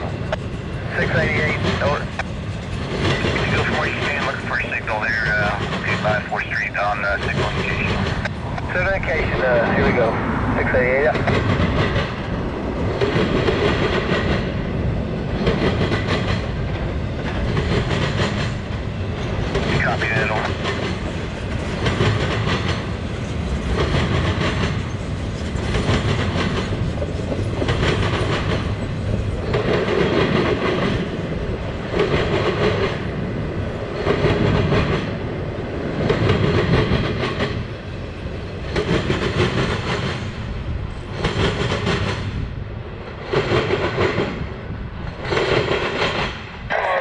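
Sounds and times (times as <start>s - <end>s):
freight train wheels clattering: 0.0s - 10.2s, 10.9s - 46.7s
train rumble: 0.0s - 47.0s.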